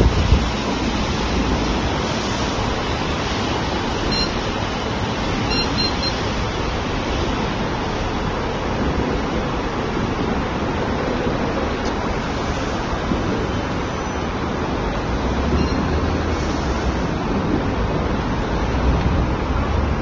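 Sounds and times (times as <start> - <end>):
city street noise: 0.0 - 20.0.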